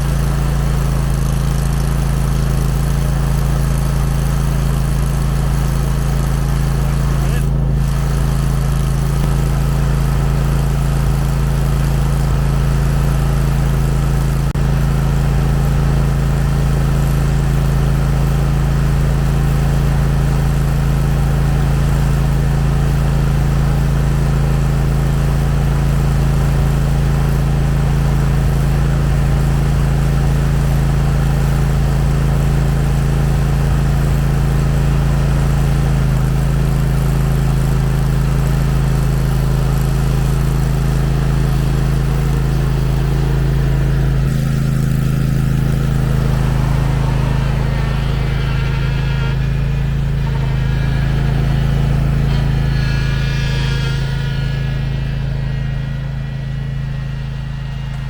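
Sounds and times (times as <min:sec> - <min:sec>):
ride-on mower engine idling: 0:00.0 - 0:58.0.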